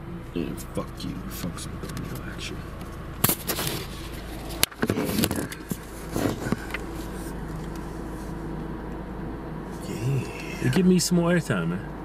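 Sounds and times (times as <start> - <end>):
low car hum: 0.0 - 12.0.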